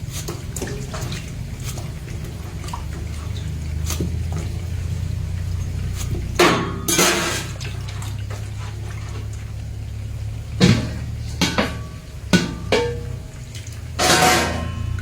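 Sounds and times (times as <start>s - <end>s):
pots and bowls clattering: 0.0s - 15.0s
steady low hum: 0.0s - 15.0s
water splashing and dripping: 0.0s - 15.0s.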